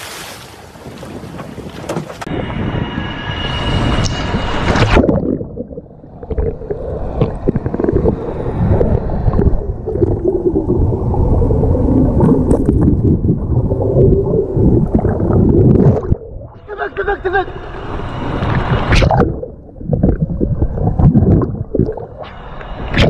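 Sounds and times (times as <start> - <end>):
underwater rumbling and gurgling: 2.2 - 23.0.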